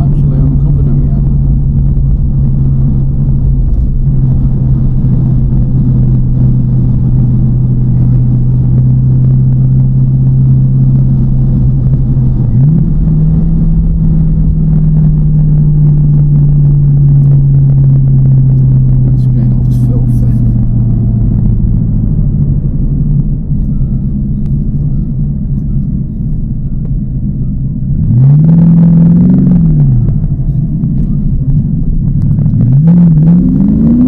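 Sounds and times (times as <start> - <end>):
car engine drone: 0.0 - 34.0.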